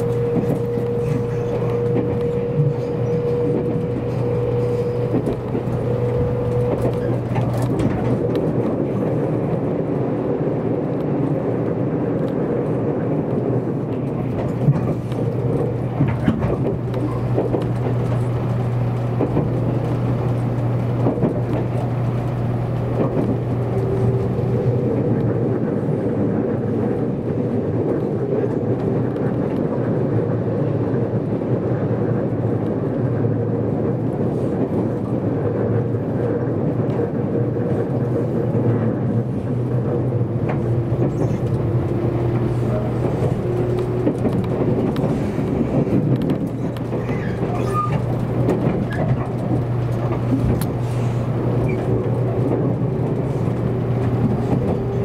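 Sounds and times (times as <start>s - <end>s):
constant low hum: 0.0s - 55.0s
rumble of wheels on rail: 0.0s - 55.0s.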